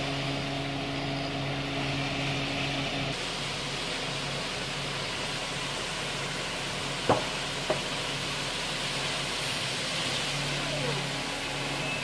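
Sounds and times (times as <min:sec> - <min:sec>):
concrete mixer truck running: 0:00.0 - 0:12.0.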